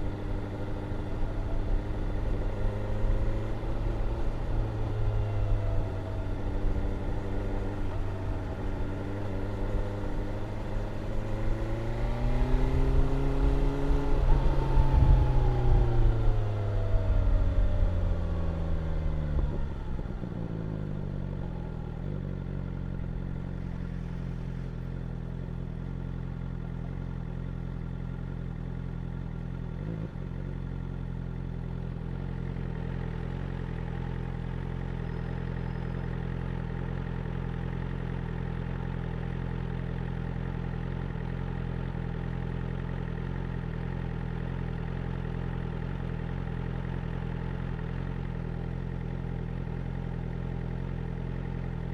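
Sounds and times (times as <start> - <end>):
motorcycle engine idling: 0.0 - 51.9.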